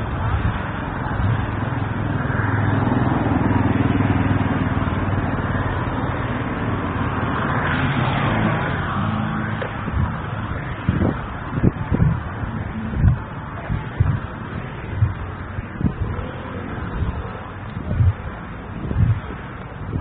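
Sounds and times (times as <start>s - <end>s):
vehicle engine noise: 0.0s - 20.0s
vehicle passing: 0.0s - 20.0s.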